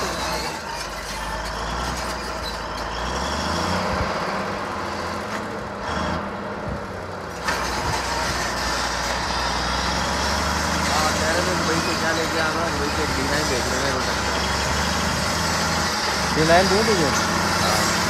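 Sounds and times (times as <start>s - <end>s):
dozer diesel engine running: 0.0s - 18.0s.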